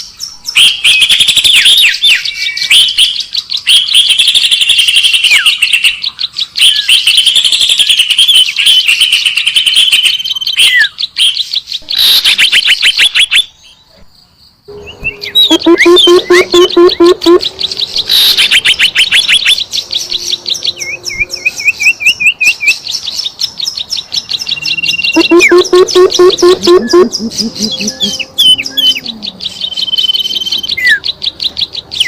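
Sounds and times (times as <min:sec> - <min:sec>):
birds chirping and trilling: 0:00.0 - 0:32.0.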